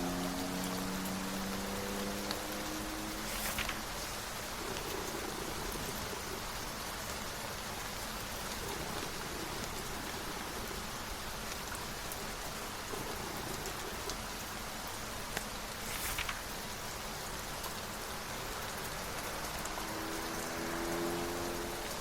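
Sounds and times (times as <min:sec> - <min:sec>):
raindrops ticking: 0:00.0 - 0:22.0
steady rain hiss: 0:00.0 - 0:22.0.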